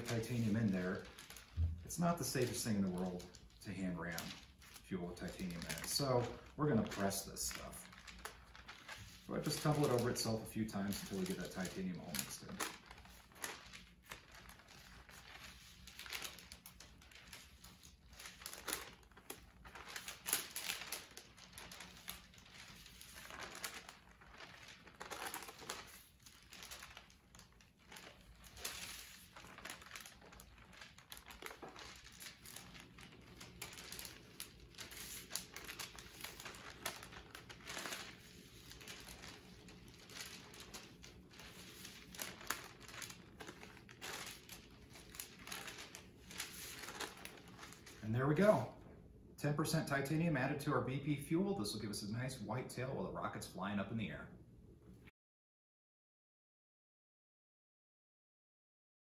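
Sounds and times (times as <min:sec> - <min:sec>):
kraft paper crinkling: 0:00.0 - 0:48.7.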